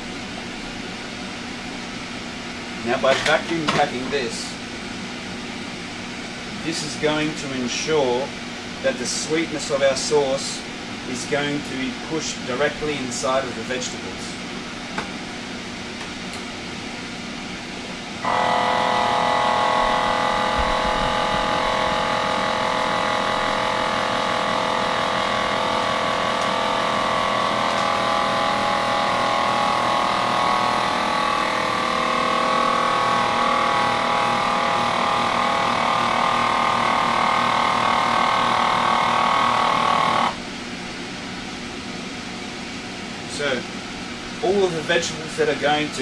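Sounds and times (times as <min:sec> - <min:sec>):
vacuum sealer pump humming: 0:00.0 - 0:46.0.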